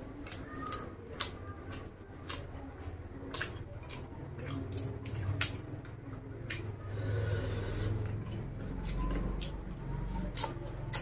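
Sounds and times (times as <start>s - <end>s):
raw vegetables crunching: 0.0s - 11.0s.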